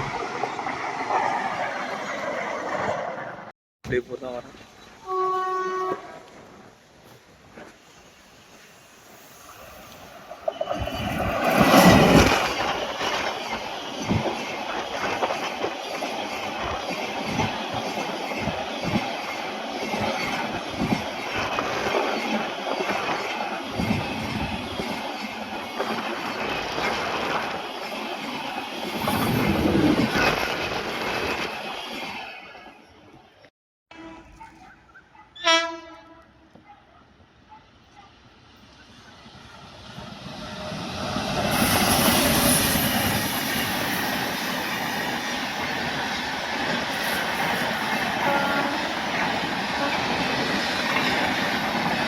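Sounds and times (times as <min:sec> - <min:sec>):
train passing: 0:00.0 - 0:33.5, 0:35.4 - 0:52.0.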